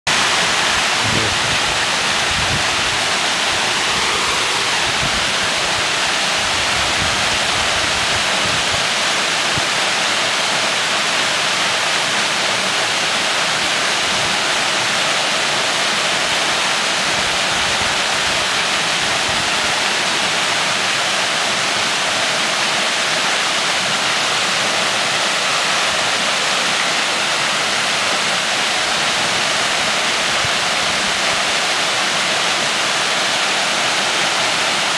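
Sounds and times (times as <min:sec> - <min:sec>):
waterfall pouring into pool: 0:00.1 - 0:34.9.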